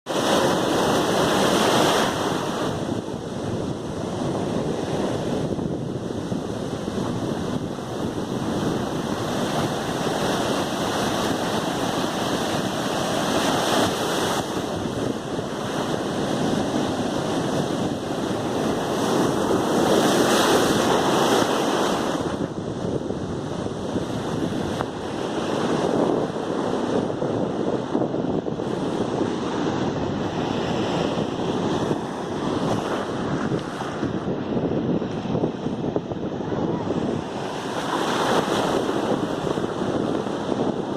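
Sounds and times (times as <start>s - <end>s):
waves breaking: 0.1s - 40.9s.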